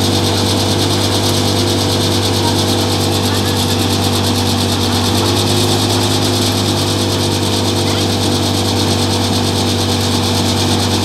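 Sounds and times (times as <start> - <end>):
thresher drum whirring hiss: 0.0 - 11.0
tractor engine drone: 0.0 - 11.0.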